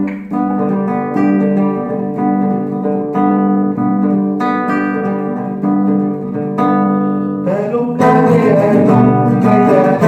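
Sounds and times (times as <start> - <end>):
strummed flamenco acoustic guitar: 0.0 - 10.0.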